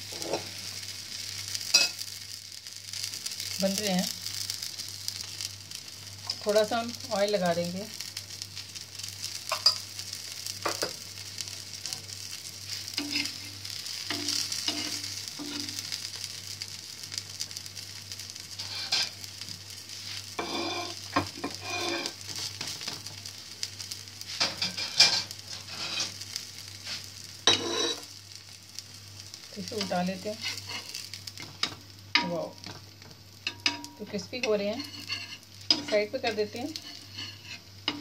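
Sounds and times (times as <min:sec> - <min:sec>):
patty sizzling in oil: 0:00.0 - 0:38.0.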